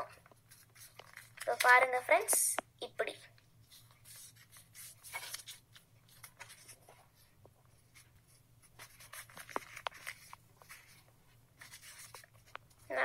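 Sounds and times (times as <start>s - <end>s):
paper crinkling and rustling: 0.1s - 1.7s, 3.6s - 13.0s.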